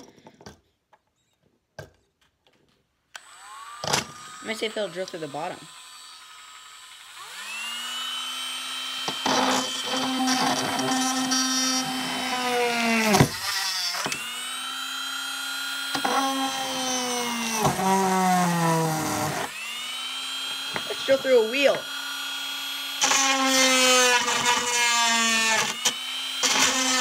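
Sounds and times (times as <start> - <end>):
drill bit grinding and scraping: 3.1 - 27.0
rotary tool whining: 3.1 - 27.0.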